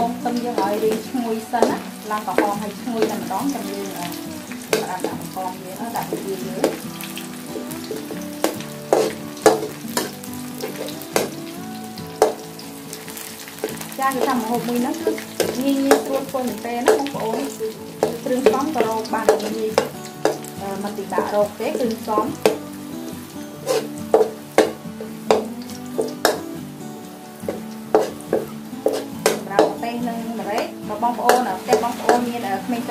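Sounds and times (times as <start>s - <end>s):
metal ladle scraping wok: 0.0s - 26.6s, 27.2s - 32.4s
garlic sizzling in hot oil: 0.0s - 32.9s.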